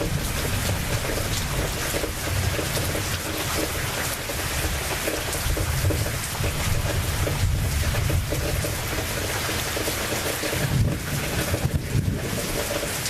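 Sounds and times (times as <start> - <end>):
rain pouring: 0.0 - 13.0.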